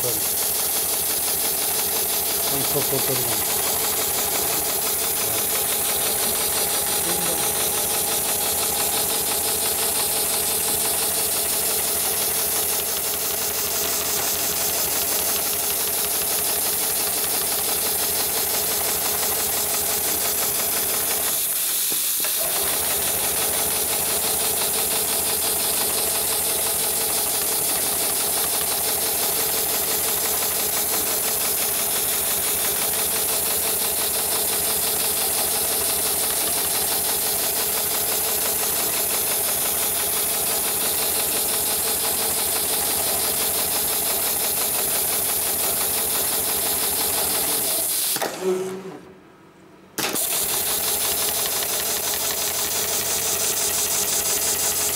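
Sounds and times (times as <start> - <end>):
loud machine hiss: 0.0 - 48.2, 50.2 - 54.9
stitching machine rhythm: 0.0 - 48.2, 50.0 - 54.9.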